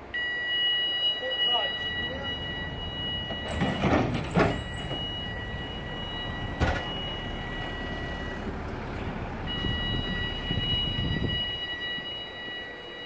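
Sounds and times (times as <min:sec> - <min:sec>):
steady high tone: 0:00.0 - 0:13.0
hovercraft engines and fans running: 0:01.2 - 0:13.0.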